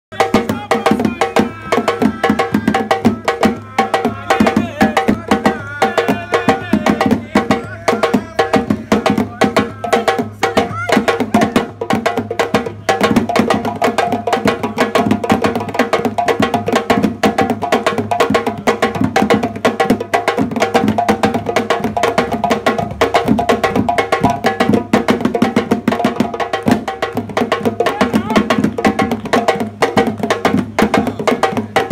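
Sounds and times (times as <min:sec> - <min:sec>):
djembes played with hands: 0:00.1 - 0:31.9.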